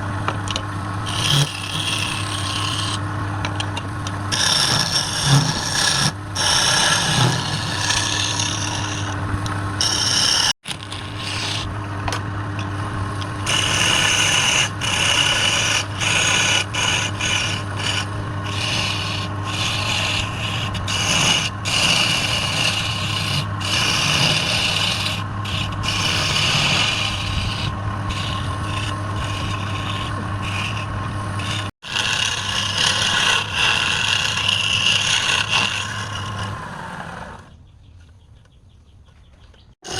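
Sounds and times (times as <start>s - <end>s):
lathe motor hum: 0.0s - 37.5s
tool scraping spinning wood: 0.0s - 37.5s, 39.6s - 39.9s.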